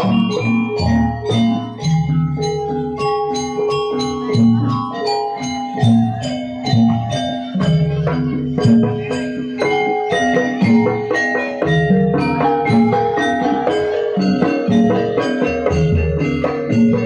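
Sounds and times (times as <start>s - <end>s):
gamelan music: 0.0s - 17.0s.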